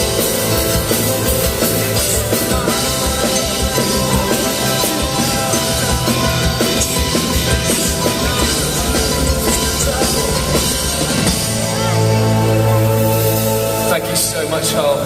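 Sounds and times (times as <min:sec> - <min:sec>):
drum kit: 0:00.0 - 0:15.0
live rock band playing: 0:00.0 - 0:15.0.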